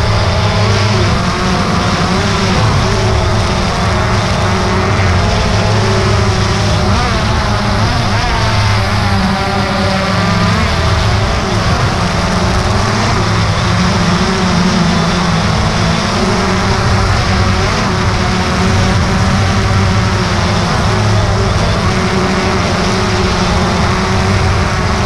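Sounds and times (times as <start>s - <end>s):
drone propellers buzzing: 0.0s - 25.0s.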